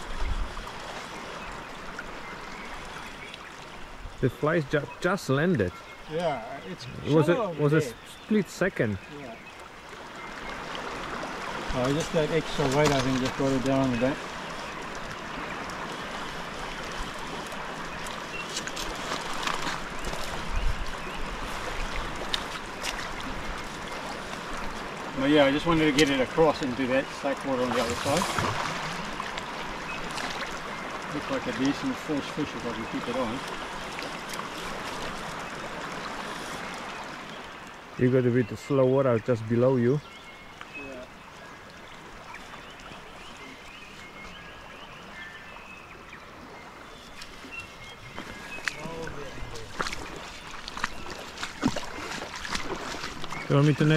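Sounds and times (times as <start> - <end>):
river flowing over stones: 0.0 - 53.9.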